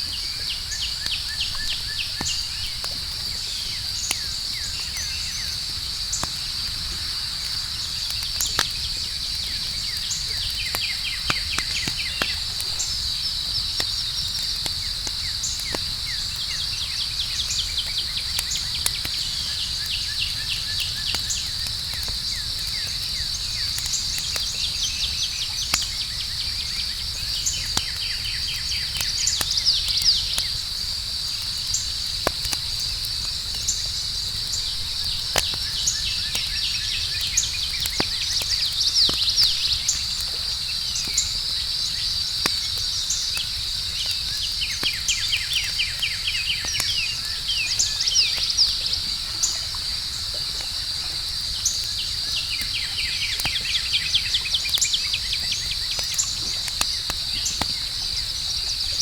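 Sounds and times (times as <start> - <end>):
campfire crackling and popping: 0.0 - 59.0
night insects chirping: 0.0 - 59.0.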